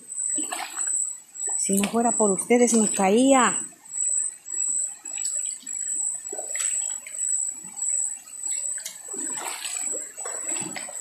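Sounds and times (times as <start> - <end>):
insect drone of cicadas and crickets: 0.0 - 11.0.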